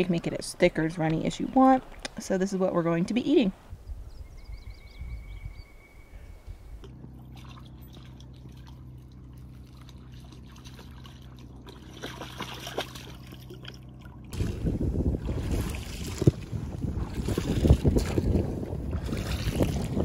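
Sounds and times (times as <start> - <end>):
lake water lapping: 0.0 - 3.4, 6.7 - 20.0
low steady hum: 0.0 - 20.0.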